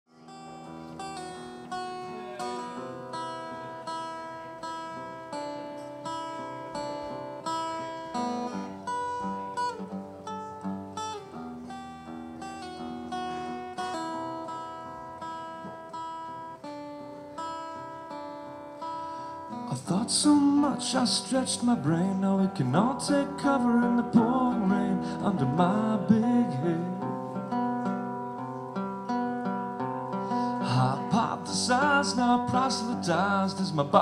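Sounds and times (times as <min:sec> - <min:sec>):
acoustic guitar chords: 0:00.1 - 0:34.0.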